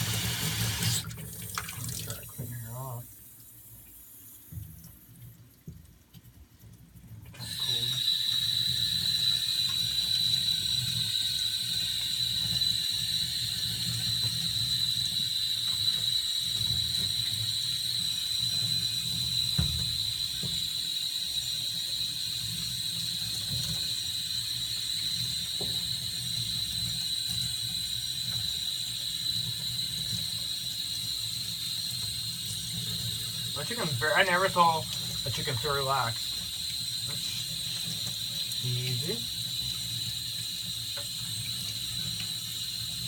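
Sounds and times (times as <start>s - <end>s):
tap running into bathtub: 0.0s - 2.6s, 7.3s - 43.0s.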